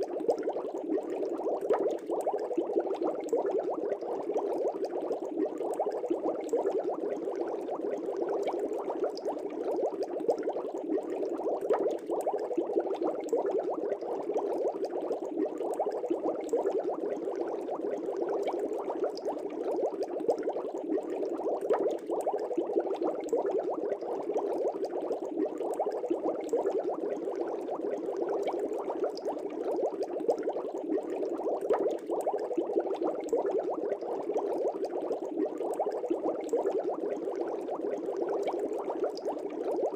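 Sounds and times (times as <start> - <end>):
air bubbles in water: 0.0 - 39.9.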